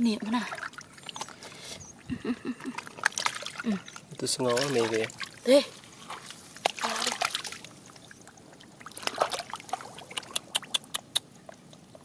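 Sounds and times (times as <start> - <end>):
shallow water splashing and dripping: 0.0 - 2.0, 2.6 - 12.0.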